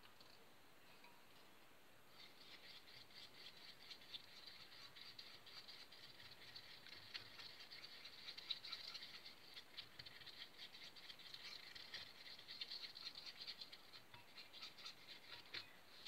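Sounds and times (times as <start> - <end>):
spoon stirring glue in bowl: 2.1 - 16.0.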